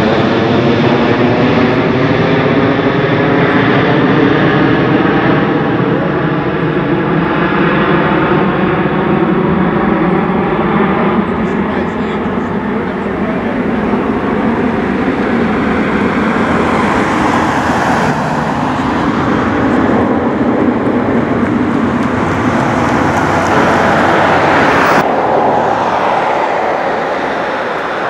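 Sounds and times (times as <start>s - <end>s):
jet engines roaring: 0.0s - 28.0s
other jets on runway: 0.0s - 28.0s.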